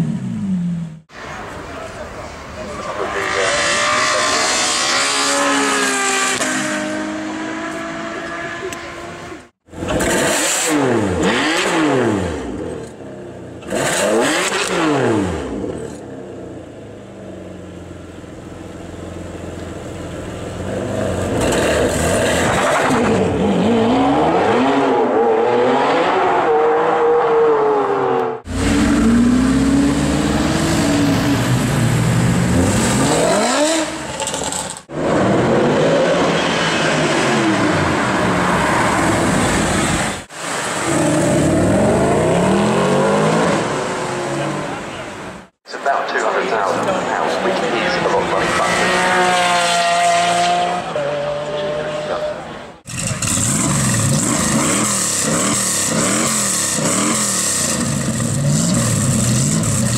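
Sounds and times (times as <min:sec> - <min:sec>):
car engines revving and passing: 0:00.0 - 0:59.9.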